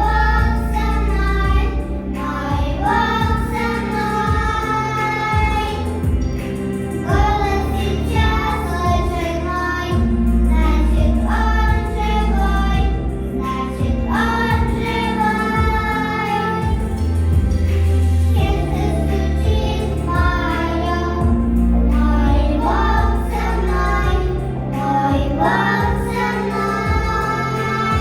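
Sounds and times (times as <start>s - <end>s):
children singing: 0.0s - 28.0s
instrumental backing track: 0.0s - 28.0s.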